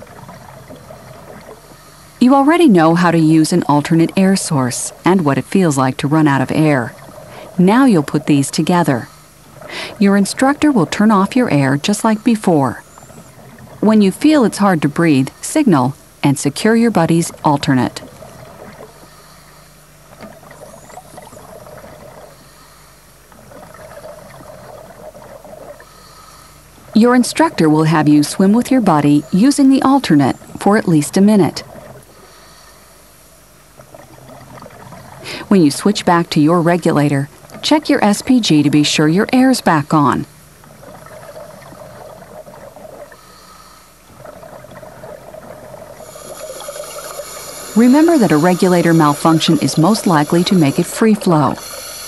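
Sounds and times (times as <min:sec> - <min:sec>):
regulator bubbles gurgling underwater: 0:00.0 - 0:52.0.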